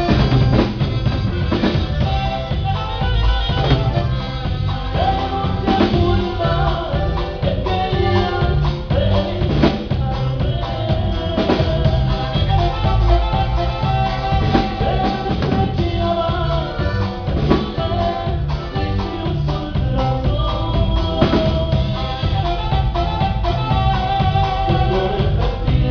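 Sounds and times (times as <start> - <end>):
drum kit beat: 0.0 - 25.9
live band playing: 0.0 - 25.9.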